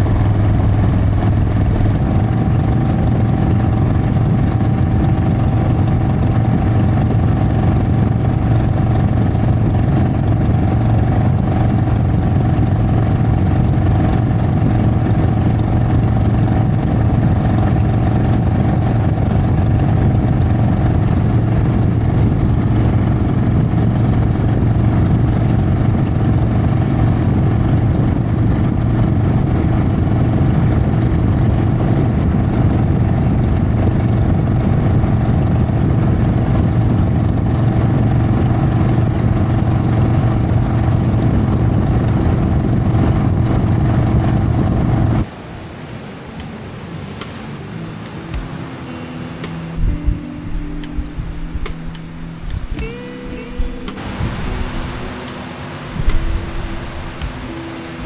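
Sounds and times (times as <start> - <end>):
motorcycle engine running steadily: 0.0 - 45.3, 49.8 - 57.9.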